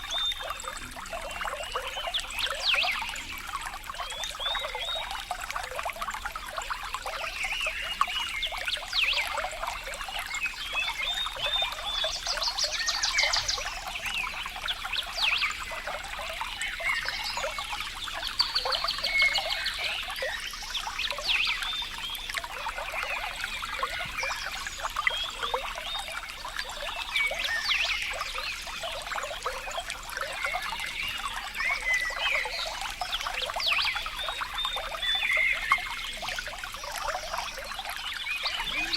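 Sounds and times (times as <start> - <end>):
water trickling and flowing: 0.0 - 38.9
wildlife chirps and trills: 0.0 - 38.9.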